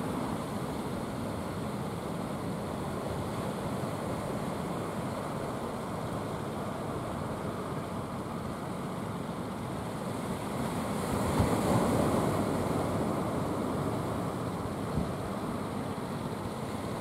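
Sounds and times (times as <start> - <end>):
sea surf washing on beach: 0.0 - 17.0.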